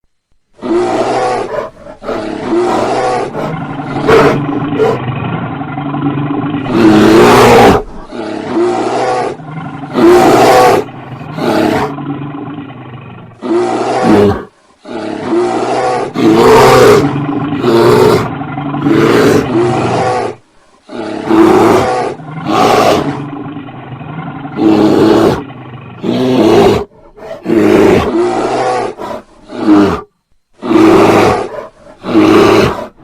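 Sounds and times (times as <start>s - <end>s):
bear roaring and growling: 0.6s - 33.0s.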